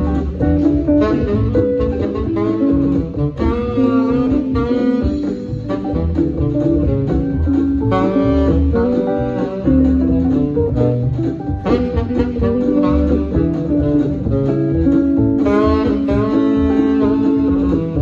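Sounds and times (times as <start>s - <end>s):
country-swing guitar and bass: 0.0s - 18.0s
saxophone sliding melody: 0.0s - 18.0s.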